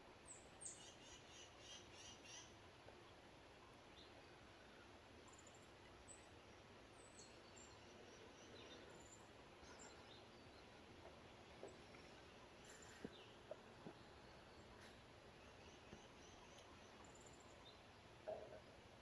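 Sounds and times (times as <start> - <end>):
faint bird chirps: 0.2 - 2.6, 3.9 - 18.8.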